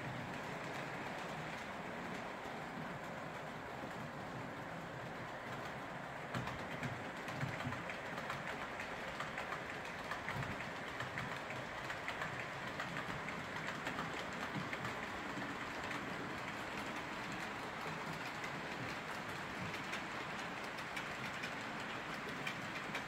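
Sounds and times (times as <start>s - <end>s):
model train whirring: 0.0s - 23.0s
wheels clicking on rails: 0.0s - 23.0s.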